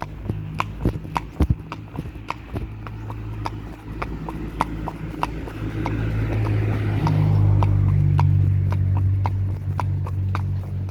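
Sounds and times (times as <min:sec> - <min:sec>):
horse hooves clip-clopping: 0:00.0 - 0:10.9
steady low hum: 0:00.0 - 0:10.9.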